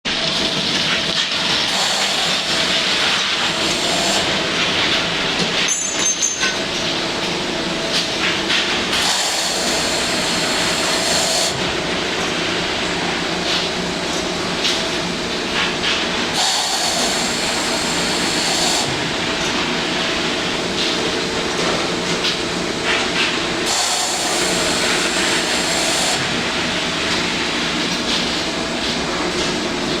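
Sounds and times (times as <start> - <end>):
washing machine mechanical hum: 0.1 - 30.0.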